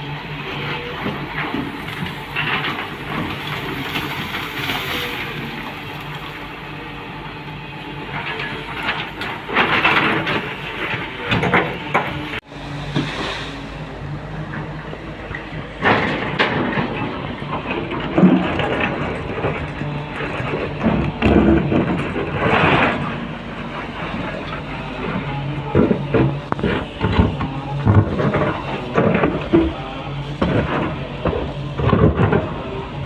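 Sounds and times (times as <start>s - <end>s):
diesel engine running under load: 0.0s - 33.0s
excavator scraping and clanking: 0.0s - 33.0s.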